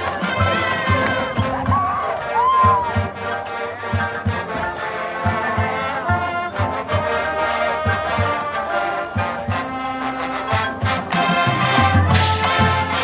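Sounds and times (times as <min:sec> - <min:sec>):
bass drum beat: 0:00.0 - 0:09.8, 0:10.6 - 0:13.0
brass section playing chords: 0:00.0 - 0:13.0.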